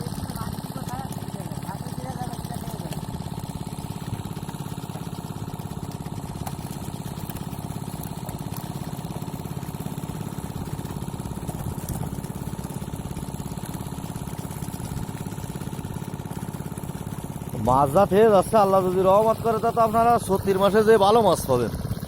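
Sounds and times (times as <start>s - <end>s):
small water pump engine chugging: 0.0s - 22.0s.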